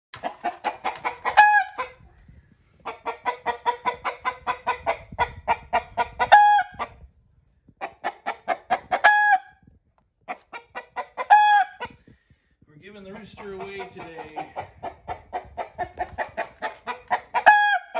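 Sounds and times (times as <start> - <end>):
rooster clucking and squawking: 0.2 - 2.2, 2.8 - 7.1, 7.8 - 9.6, 10.3 - 12.0, 13.3 - 17.9.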